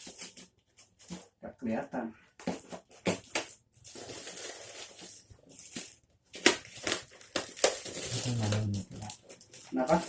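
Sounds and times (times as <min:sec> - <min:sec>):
packaging crinkling and tearing: 0:00.0 - 0:01.4, 0:02.4 - 0:10.0.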